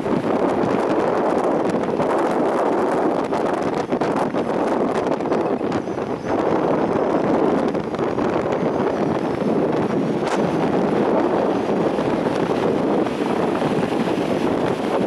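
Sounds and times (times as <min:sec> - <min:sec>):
stormy sea surf: 0:00.0 - 0:15.0
wind buffeting microphone: 0:00.0 - 0:15.0.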